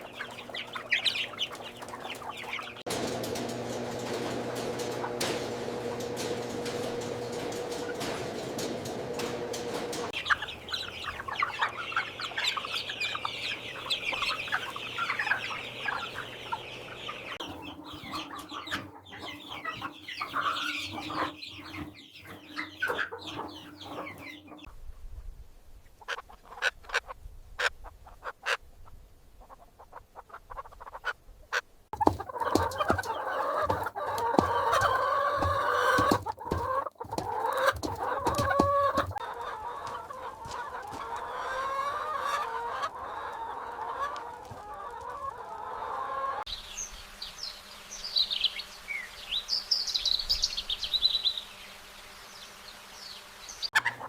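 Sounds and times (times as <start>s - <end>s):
chickens clucking: 0.0s - 24.7s, 25.9s - 46.5s, 53.6s - 54.0s.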